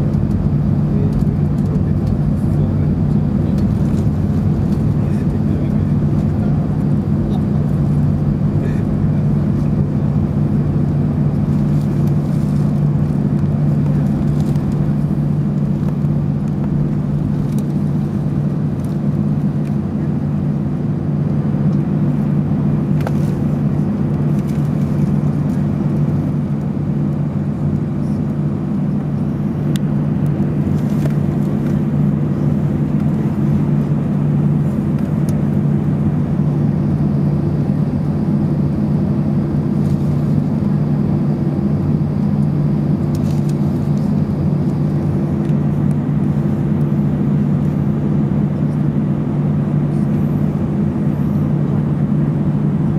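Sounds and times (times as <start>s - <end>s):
airliner engine drone in cabin: 0.0s - 52.9s.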